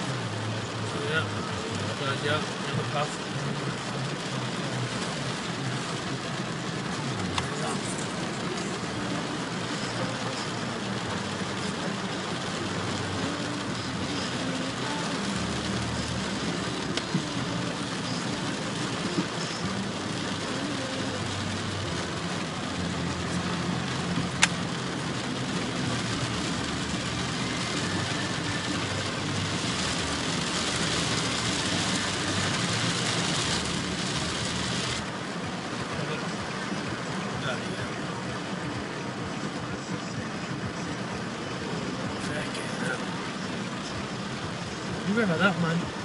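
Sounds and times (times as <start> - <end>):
car engine running: 0.0 - 46.0
heavy rain on a car: 0.0 - 46.0.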